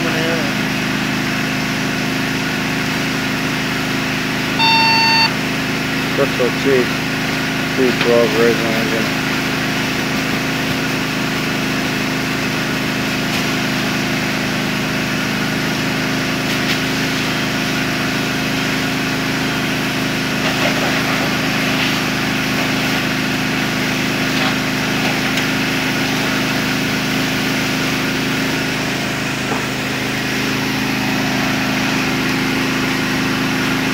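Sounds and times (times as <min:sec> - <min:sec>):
fire engine motor running: 0:00.0 - 0:33.9.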